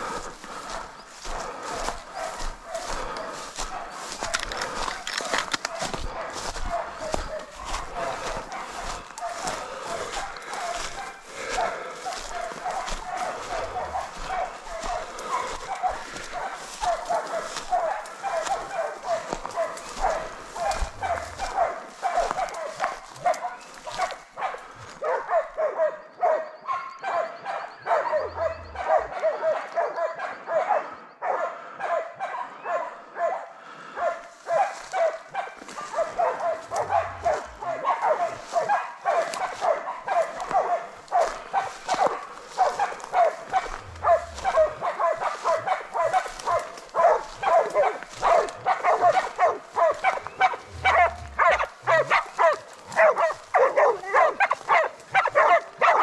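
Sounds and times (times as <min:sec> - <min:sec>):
dogs barking rapidly: 0:00.0 - 0:56.0.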